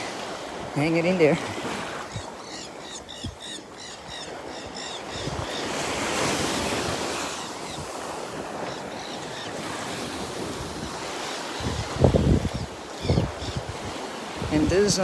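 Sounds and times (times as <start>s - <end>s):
wind on microphone: 0.0s - 2.4s, 3.0s - 15.0s
surf washing onto beach: 0.0s - 2.5s, 3.6s - 15.0s.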